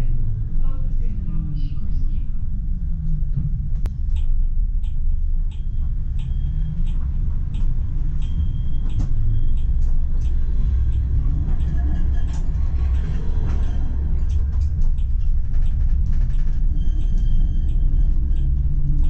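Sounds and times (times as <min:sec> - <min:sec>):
low tram rumble: 0:00.0 - 0:19.0
regular ticking: 0:02.4 - 0:19.0.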